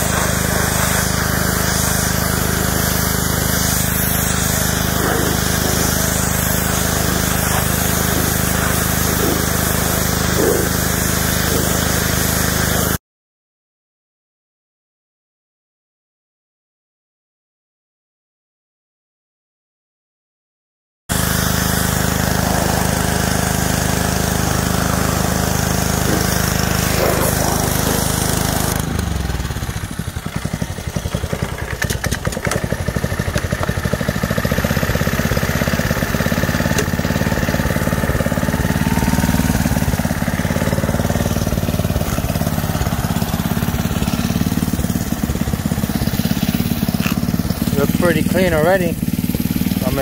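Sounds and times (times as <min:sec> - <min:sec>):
pressure washer engine running: 0:00.0 - 0:13.0, 0:21.1 - 0:50.0.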